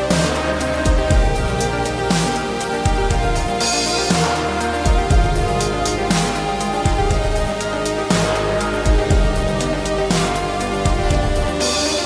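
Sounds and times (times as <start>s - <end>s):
deep bass beat: 0.0s - 12.0s
electronic music with synth tones: 0.0s - 12.0s.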